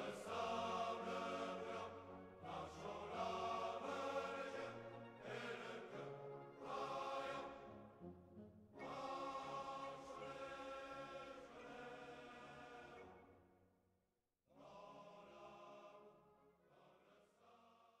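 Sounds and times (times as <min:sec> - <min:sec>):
faint choral singing: 0:00.0 - 0:08.1, 0:08.7 - 0:13.4, 0:14.5 - 0:18.0.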